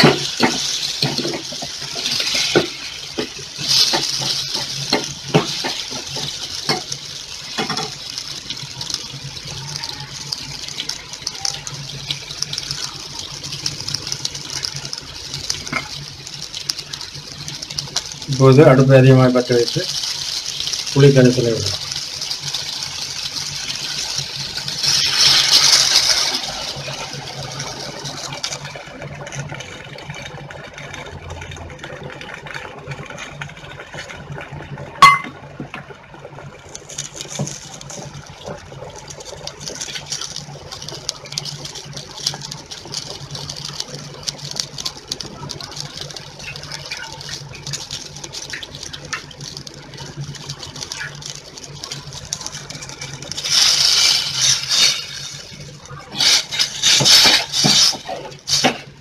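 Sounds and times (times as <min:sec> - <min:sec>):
liquid pouring and splashing: 0:00.0 - 0:59.0
liquid sizzling and popping: 0:00.0 - 0:59.0.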